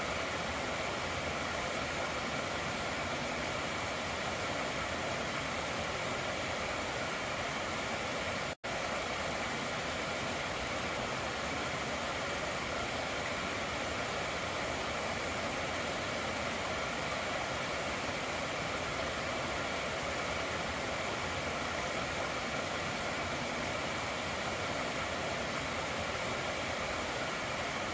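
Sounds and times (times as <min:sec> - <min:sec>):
stream water running over rocks: 0:00.0 - 0:27.9.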